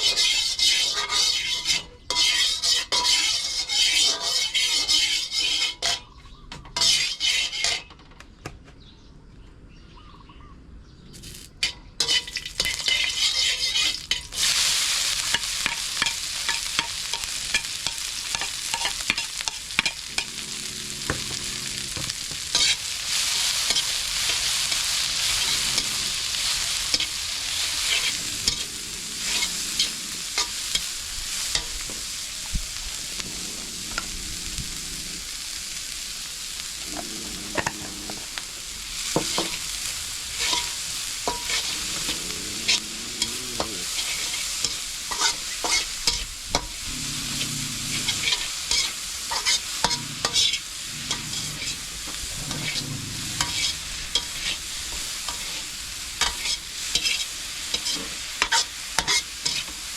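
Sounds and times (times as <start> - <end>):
food sizzling in a pan: 0.0 - 6.1, 6.8 - 7.9, 11.2 - 59.9
spatula scraping pan: 0.0 - 8.0, 11.6 - 34.6, 35.5 - 59.9.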